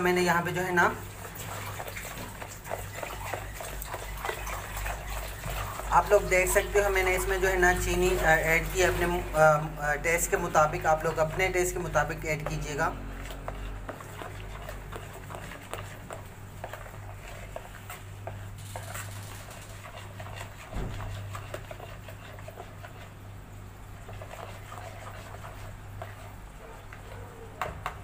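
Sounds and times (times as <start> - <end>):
spoon scraping pot: 0.0 - 23.3, 23.9 - 28.0.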